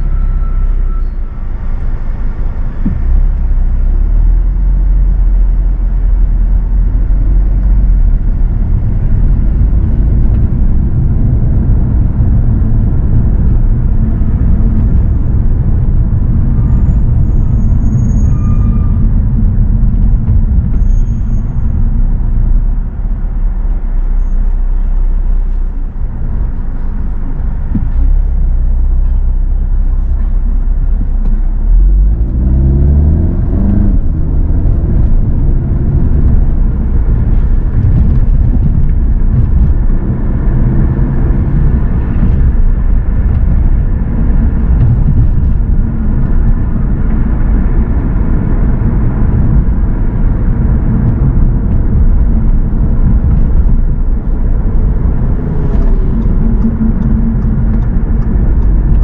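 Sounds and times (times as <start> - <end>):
car engine rumble: 0.0 - 59.0
road noise: 0.0 - 59.0.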